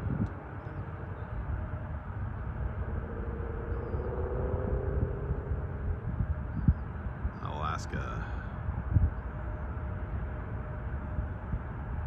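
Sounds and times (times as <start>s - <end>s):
distant jet engines rumbling: 0.0s - 12.0s
faint engine whine: 0.0s - 12.0s.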